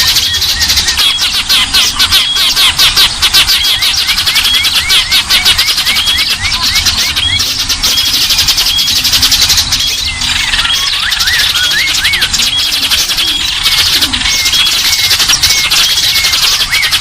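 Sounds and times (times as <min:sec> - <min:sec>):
high piping bird notes: 0:00.0 - 0:17.0
slurred bird whistles: 0:00.0 - 0:17.0
songbirds chattering: 0:00.0 - 0:17.0.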